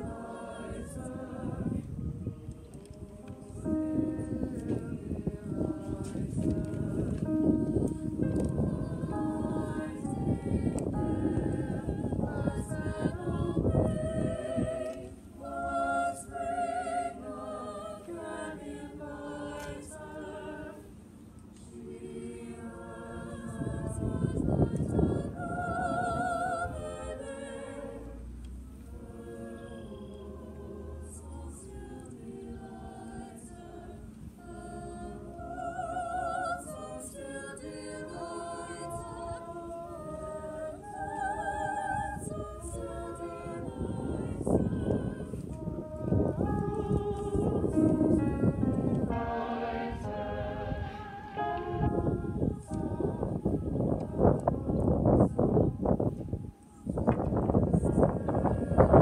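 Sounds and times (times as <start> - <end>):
choir singing a cappella: 0.0 - 59.0.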